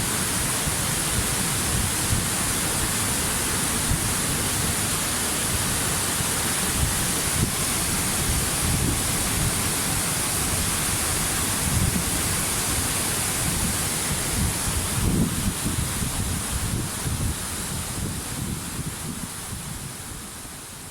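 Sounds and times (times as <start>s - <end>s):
waterfall rushing: 0.0s - 19.6s.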